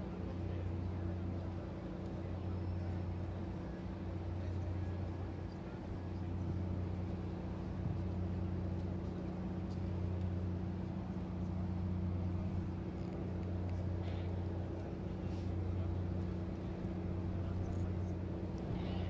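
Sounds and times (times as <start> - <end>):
ship engine humming: 0.0 - 19.0.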